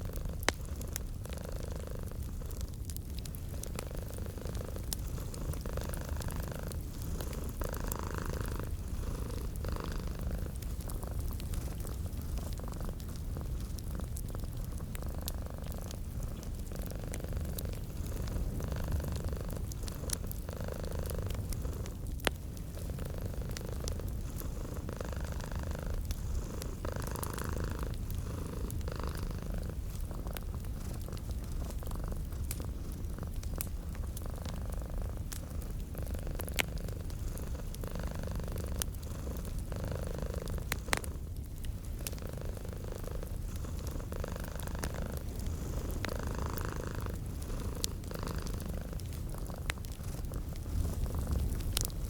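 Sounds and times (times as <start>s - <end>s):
cat purring: 0.0s - 52.0s
fireplace crackling: 0.0s - 52.0s.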